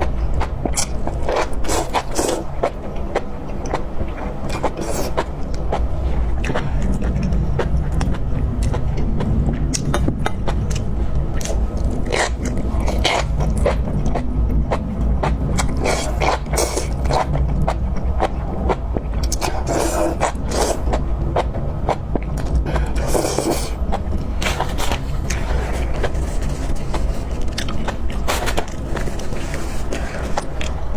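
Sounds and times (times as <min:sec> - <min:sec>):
wet chewing and smacking: 0:00.0 - 0:30.8
low hum: 0:02.8 - 0:30.9.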